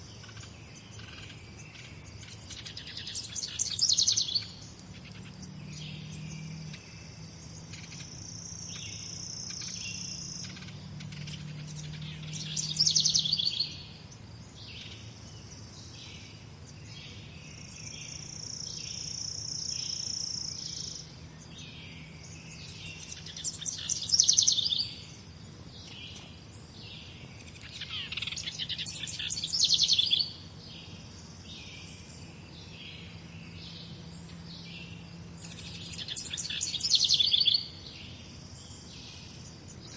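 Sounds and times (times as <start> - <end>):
steady high bird trill: 0.0 - 26.3, 27.0 - 39.9
loud rapid trilling birdsong: 0.0 - 39.9
songbirds chirping: 0.0 - 39.9.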